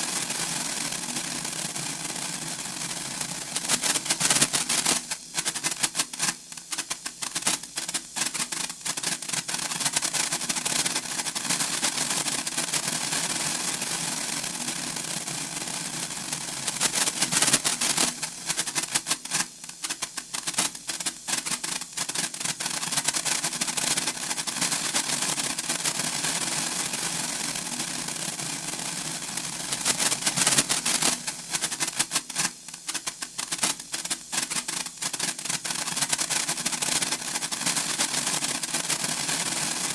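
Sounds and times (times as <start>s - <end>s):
sparkler crackling and fizzing: 0.0s - 39.9s.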